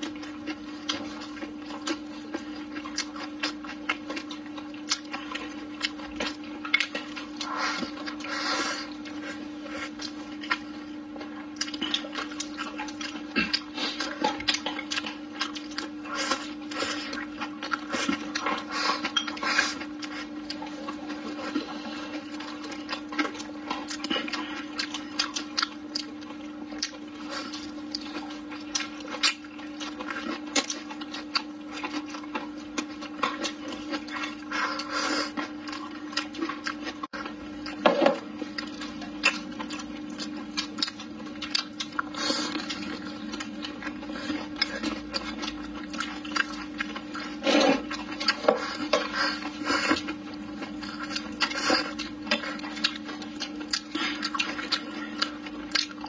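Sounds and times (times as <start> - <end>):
steady low hum: 0.0 - 56.0
wet chewing and lip-smacking: 0.0 - 56.0.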